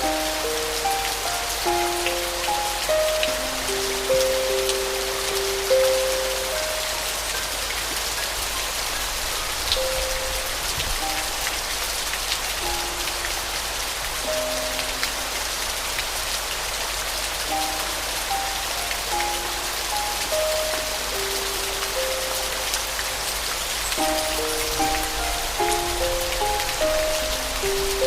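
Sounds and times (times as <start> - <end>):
soft piano notes: 0.0 - 28.0
steady rain falling: 0.0 - 28.0.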